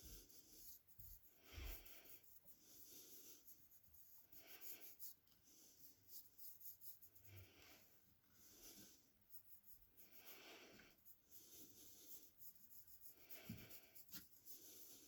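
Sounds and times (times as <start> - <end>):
faint rubbing strokes: 0.0 - 15.0.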